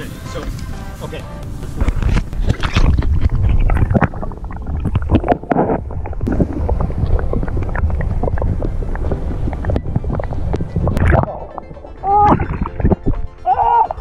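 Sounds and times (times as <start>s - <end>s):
water sloshing and bubbling: 1.6s - 14.0s.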